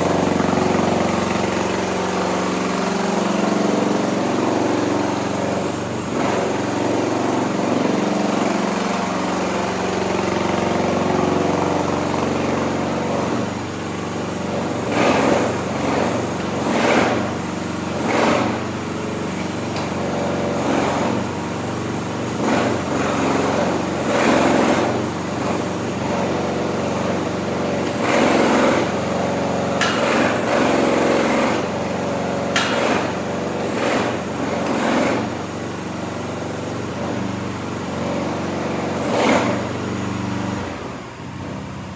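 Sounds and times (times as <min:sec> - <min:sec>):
excavator engine running: 0:00.0 - 0:41.6.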